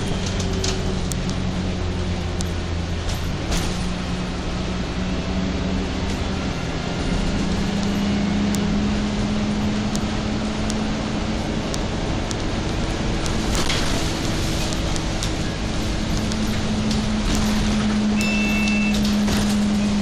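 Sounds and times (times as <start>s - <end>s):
vehicle engine hum from inside: 0.0s - 20.0s.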